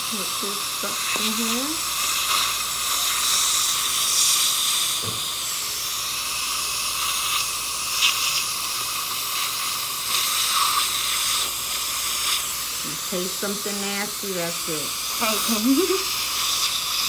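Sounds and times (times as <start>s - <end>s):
dental suction hissing: 0.0s - 17.0s.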